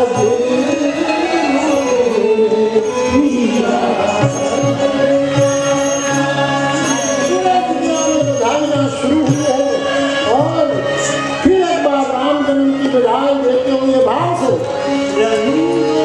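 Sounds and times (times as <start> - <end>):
held instrumental tones: 0.0 - 16.0
person singing devotional song: 0.0 - 16.0.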